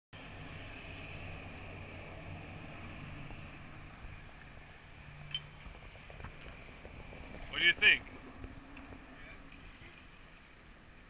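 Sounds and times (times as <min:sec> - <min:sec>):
low steady hum: 0:00.2 - 0:11.0
water rushing: 0:00.2 - 0:11.0.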